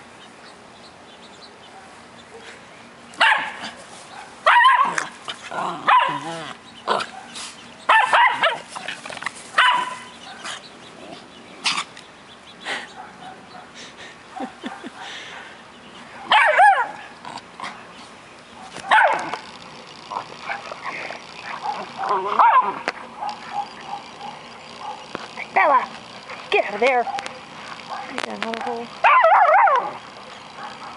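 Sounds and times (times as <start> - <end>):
dogs barking: 1.6 - 2.6, 3.2 - 10.8, 12.7 - 17.8, 18.5 - 19.5, 20.1 - 30.9.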